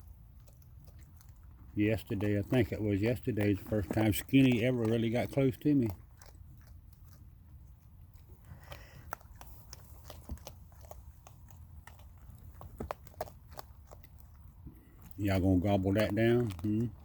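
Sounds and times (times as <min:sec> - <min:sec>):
raccoons crunching dry food: 0:00.0 - 0:17.0.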